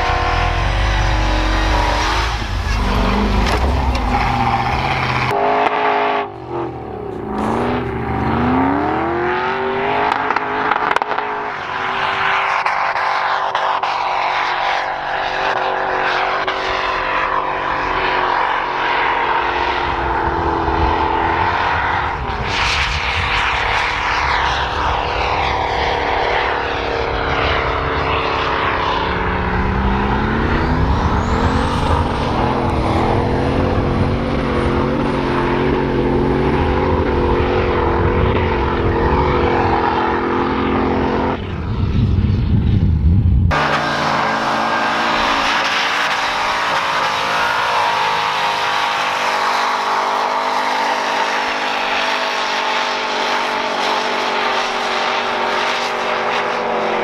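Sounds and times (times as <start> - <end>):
engines revving at high revs: 0.0 - 41.6, 43.5 - 57.0.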